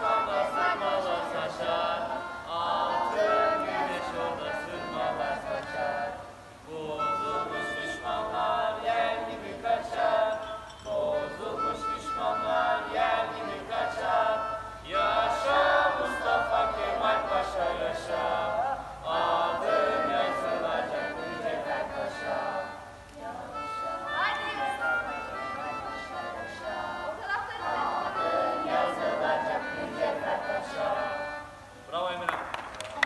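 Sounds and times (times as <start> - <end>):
choir singing with music: 0.0 - 31.8.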